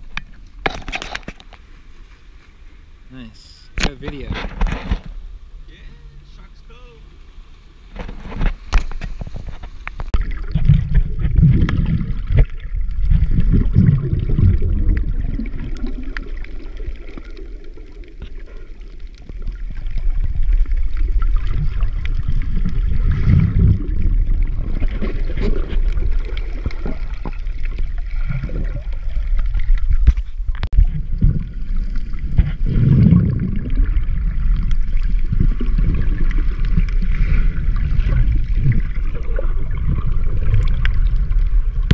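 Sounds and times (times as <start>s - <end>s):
underwater rumble of waves: 0.0s - 41.9s.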